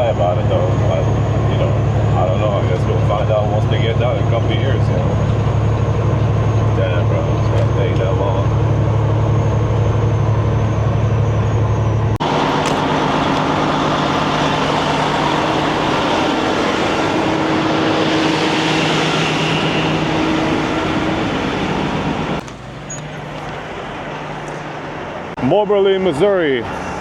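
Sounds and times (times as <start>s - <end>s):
road and wind noise: 0.0s - 27.0s
truck engine drone: 0.0s - 27.0s.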